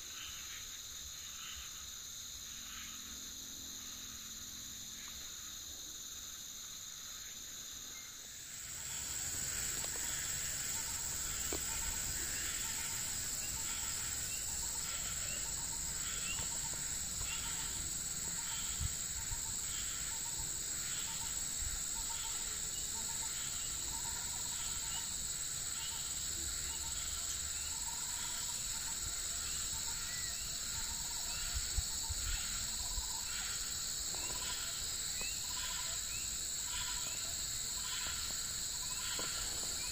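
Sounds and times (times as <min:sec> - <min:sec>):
high-pitched insect trill: 0:00.0 - 0:39.9
pulsing insect call: 0:00.0 - 0:39.9.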